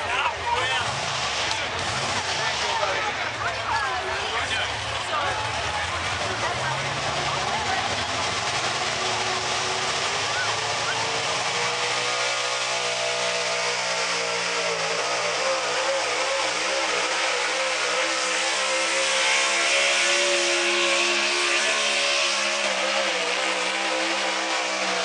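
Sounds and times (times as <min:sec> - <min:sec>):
truck engine at full throttle: 0:00.0 - 0:25.0.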